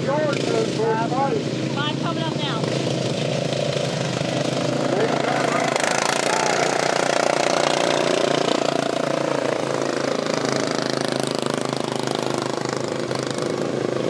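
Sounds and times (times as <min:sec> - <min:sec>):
racing lawn mower engines: 0:00.0 - 0:14.0.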